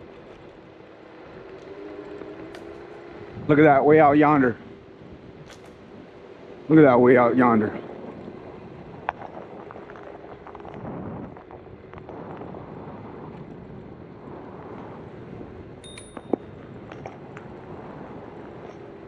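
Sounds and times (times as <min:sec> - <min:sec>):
faint scooter hum: 0:00.0 - 0:19.0
wheels rolling noise: 0:00.0 - 0:19.0
wind rush on microphone: 0:00.0 - 0:19.0.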